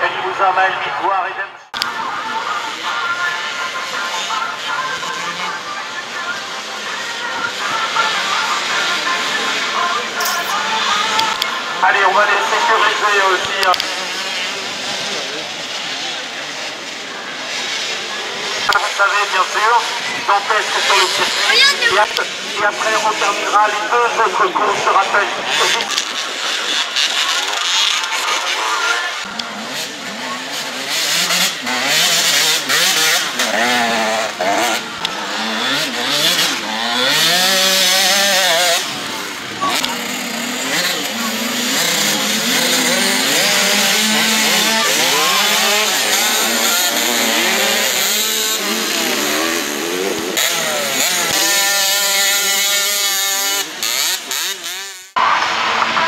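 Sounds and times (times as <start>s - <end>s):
motorbike engines revving: 0.0s - 56.0s.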